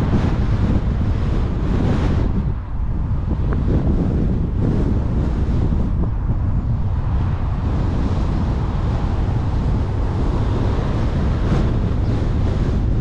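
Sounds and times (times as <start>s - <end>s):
car road and wind noise: 0.0s - 13.0s
wind buffeting microphone: 0.0s - 13.0s.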